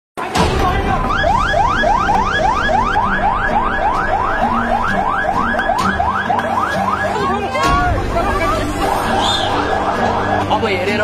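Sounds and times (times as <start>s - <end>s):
siren rising sweeps: 1.0s - 7.6s, 8.4s - 11.0s.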